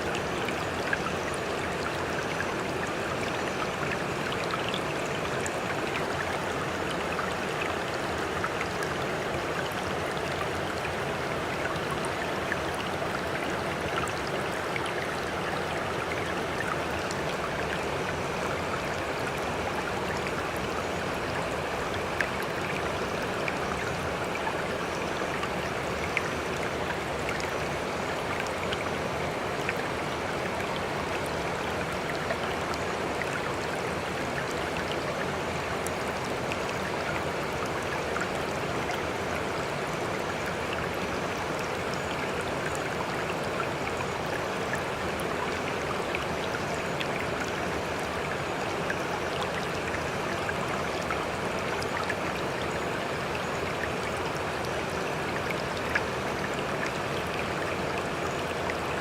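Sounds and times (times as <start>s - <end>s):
faint ticks and drips: 0.0s - 59.0s.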